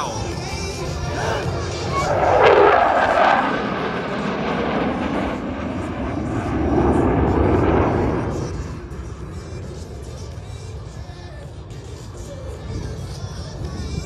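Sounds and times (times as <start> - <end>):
jet engines roaring past: 0.0 - 14.0.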